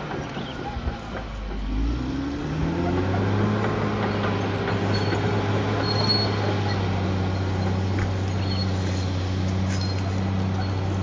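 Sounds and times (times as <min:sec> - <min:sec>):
bulldozer diesel engine revving: 0:00.0 - 0:11.0.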